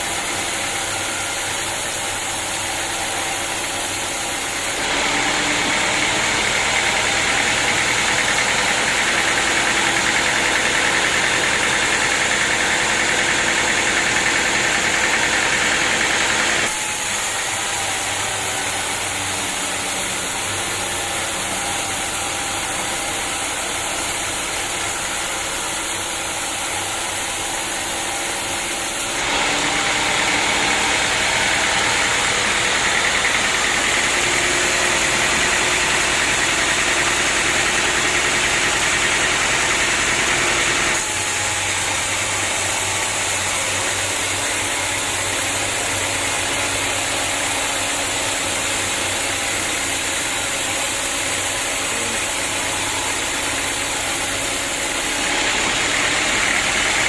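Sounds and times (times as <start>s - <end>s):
sawmill machinery cutting wood: 0.0s - 57.0s.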